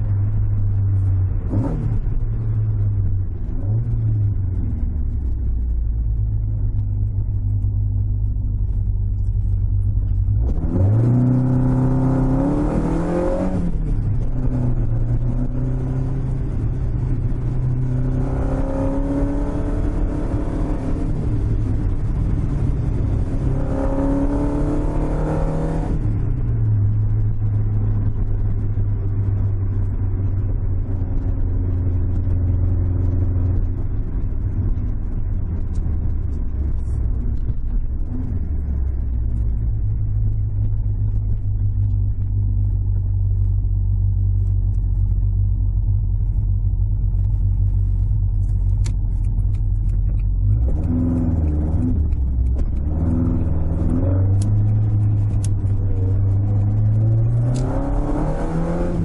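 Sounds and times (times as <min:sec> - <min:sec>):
car engine revving in cabin: 0:00.0 - 0:59.0.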